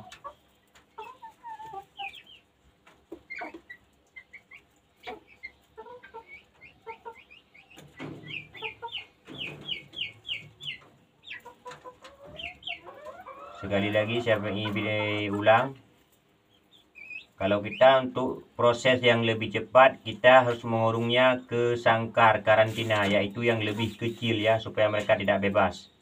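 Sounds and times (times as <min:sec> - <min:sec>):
high chick-like peeps: 0:00.0 - 0:18.4, 0:22.4 - 0:25.5
chickens clucking: 0:00.0 - 0:26.0.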